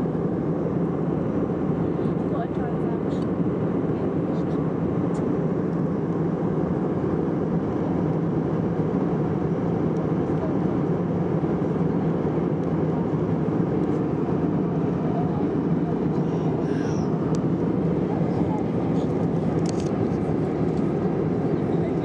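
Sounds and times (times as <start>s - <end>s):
jet cabin engine and airflow noise: 0.0s - 22.0s.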